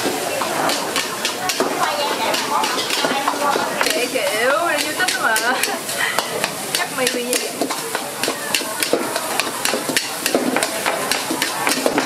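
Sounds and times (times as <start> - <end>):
food sizzling: 0.0 - 12.0
metal spatula scraping a wok: 0.0 - 12.0.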